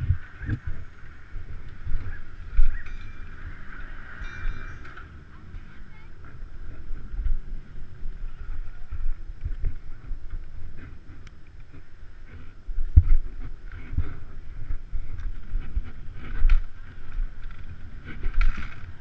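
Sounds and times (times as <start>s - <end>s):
distant motorcycle engines droning: 0.0s - 19.0s
wind buffeting microphone: 0.0s - 19.0s.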